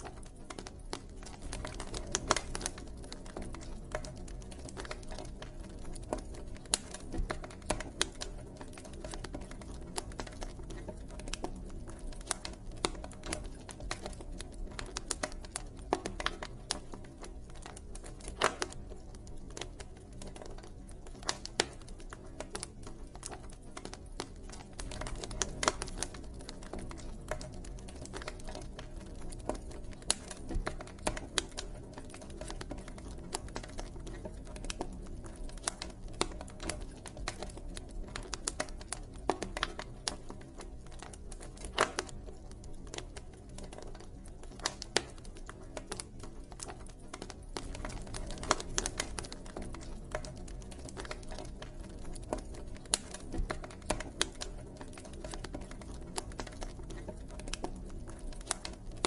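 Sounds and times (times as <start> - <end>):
low rumble of flames: 0.0 - 59.0
wood crackling and popping: 0.0 - 59.0.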